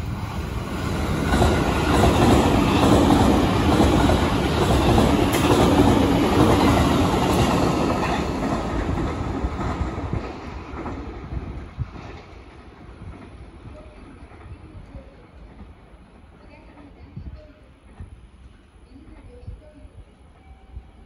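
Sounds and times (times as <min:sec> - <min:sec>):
train wheels clickety-clack: 0:00.4 - 0:19.3.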